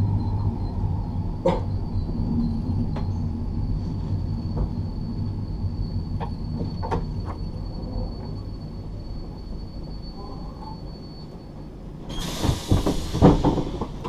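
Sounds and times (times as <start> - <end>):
train carriage rumbling: 0.0 - 14.0.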